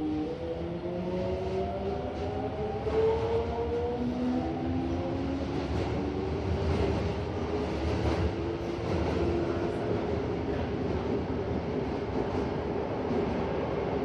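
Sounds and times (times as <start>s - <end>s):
wheels rumbling on rail: 0.8s - 14.0s.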